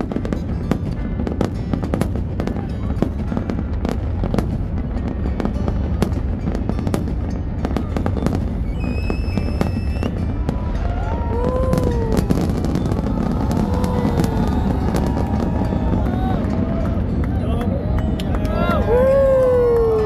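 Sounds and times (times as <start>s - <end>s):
fireworks bursts and crackles: 0.0s - 20.0s.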